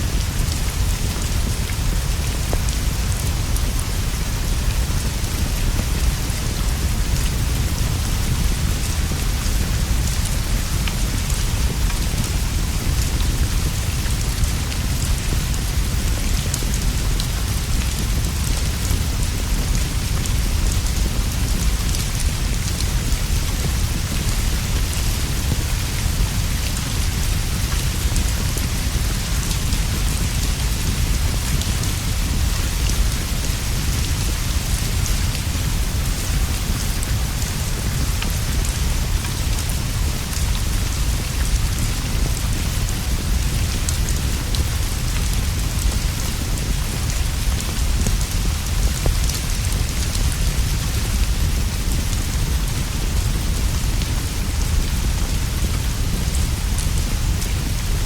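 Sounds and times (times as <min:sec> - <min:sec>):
steady rainfall: 0:00.0 - 0:58.0
rain drops ticking: 0:00.1 - 0:58.0.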